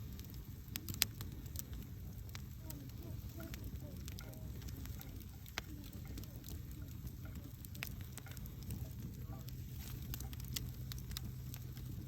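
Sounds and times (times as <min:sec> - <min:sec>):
campfire wood crackling: 0:00.0 - 0:12.0
low steady fire rumble: 0:00.0 - 0:12.0
sharp fire pops: 0:00.0 - 0:12.0.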